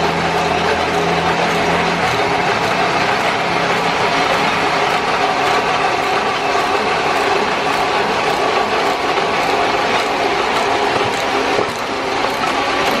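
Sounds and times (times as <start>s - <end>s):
printing press clatter: 0.0s - 13.0s.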